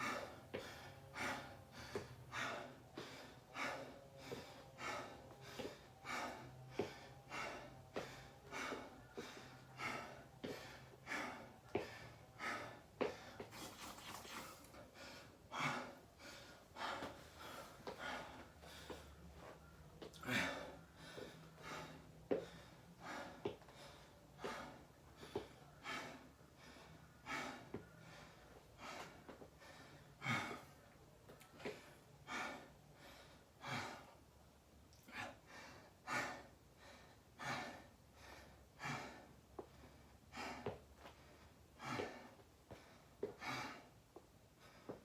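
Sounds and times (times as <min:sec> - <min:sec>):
person breathing hard: 0:00.0 - 0:45.0.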